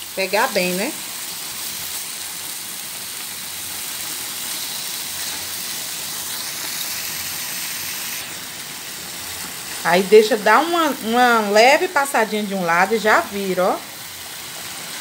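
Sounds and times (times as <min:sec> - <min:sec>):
meat sizzling in frying pan: 0:00.0 - 0:15.0.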